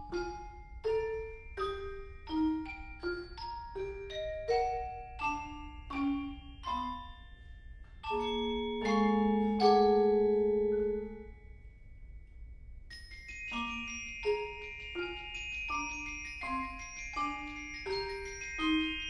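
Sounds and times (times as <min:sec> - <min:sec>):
mallet percussion trio playing: 0:00.0 - 0:07.4, 0:08.0 - 0:11.5, 0:12.9 - 0:19.0.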